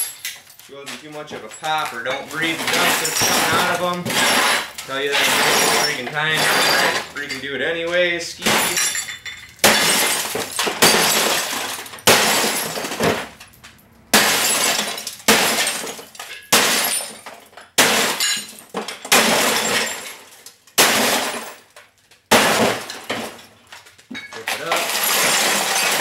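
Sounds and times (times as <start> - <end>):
television glass being smashed: 0.0 - 7.4, 8.3 - 26.0
breaking glass falling: 0.0 - 26.0.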